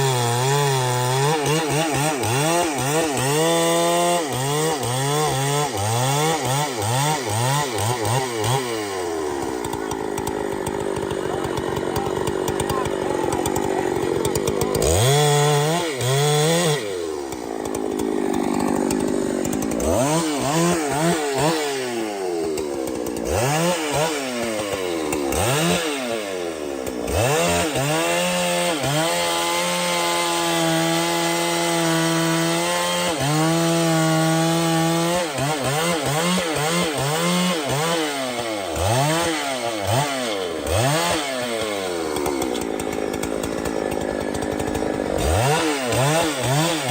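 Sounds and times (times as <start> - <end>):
chainsaw revving: 0.0 - 46.9.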